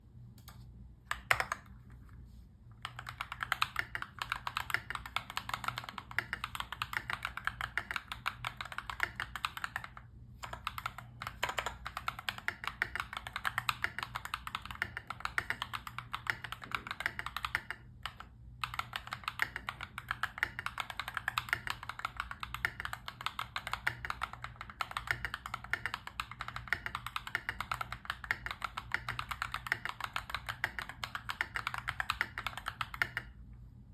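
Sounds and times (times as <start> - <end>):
fast typing on mechanical keyboard: 1.1 - 1.7, 2.8 - 33.4.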